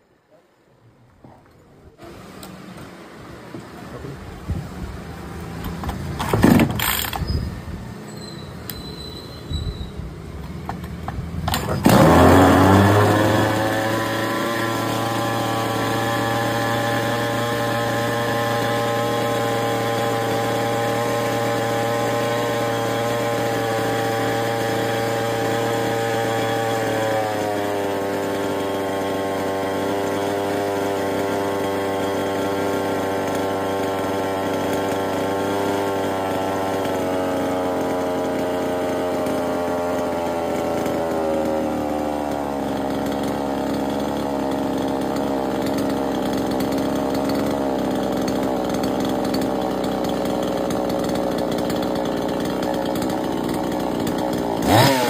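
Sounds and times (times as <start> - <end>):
chainsaw engine starting and idling: 2.0 - 55.0.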